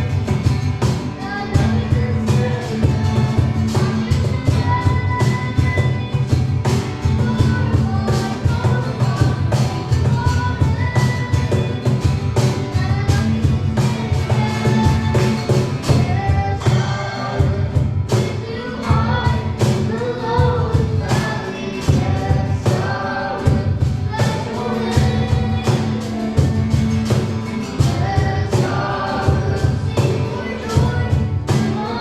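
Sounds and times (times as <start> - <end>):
band with drums and bass: 0.0 - 32.0
group of voices singing: 0.0 - 32.0.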